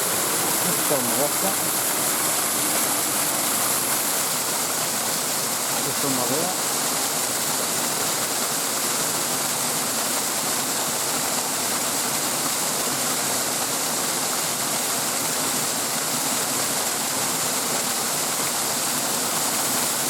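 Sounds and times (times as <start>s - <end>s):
water rushing over waterfall: 0.0s - 20.0s.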